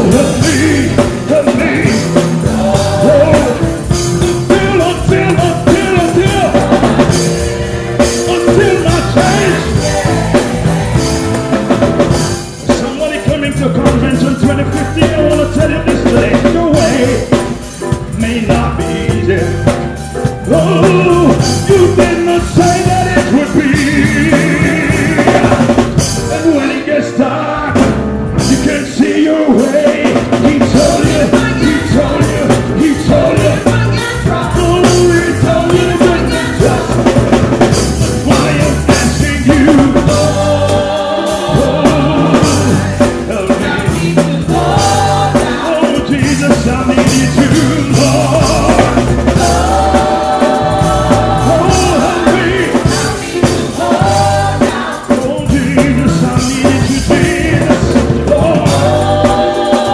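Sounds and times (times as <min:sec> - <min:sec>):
drum kit and band: 0:00.0 - 0:59.9
gospel choir singing: 0:00.0 - 0:59.9
lead singer on microphone: 0:00.0 - 0:59.9.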